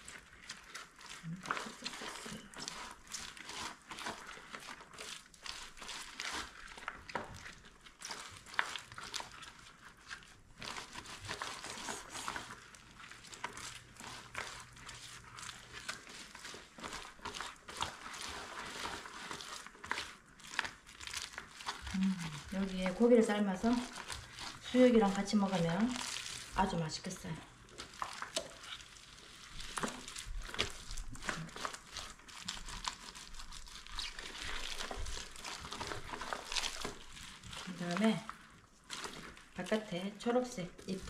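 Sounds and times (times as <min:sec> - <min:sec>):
gloved hands rustling cabbage: 0:00.0 - 0:41.0.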